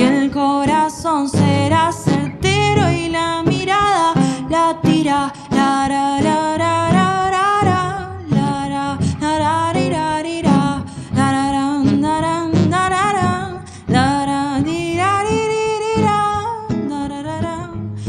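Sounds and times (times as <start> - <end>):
plucked acoustic guitar: 0.0 - 18.0
woman singing wordless melody: 0.0 - 18.0.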